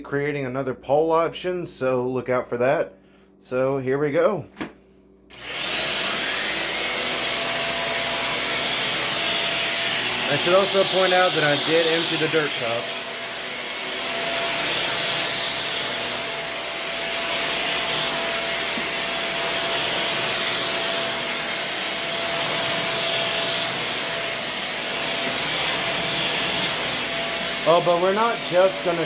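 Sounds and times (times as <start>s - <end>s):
stick vacuum whining: 5.3s - 29.0s.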